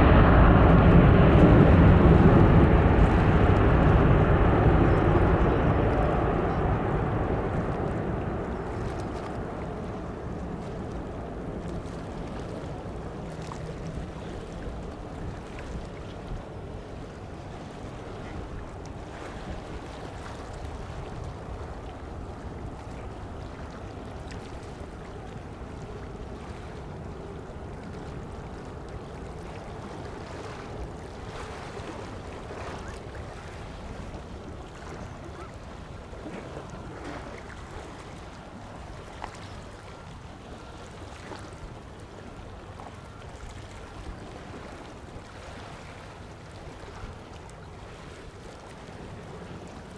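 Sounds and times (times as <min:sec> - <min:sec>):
distant jet engine rumble: 0:00.0 - 0:49.9.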